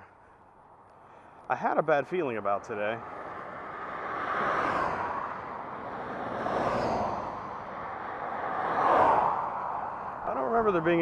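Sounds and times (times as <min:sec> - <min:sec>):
vehicles rushing past: 0:00.6 - 0:11.0.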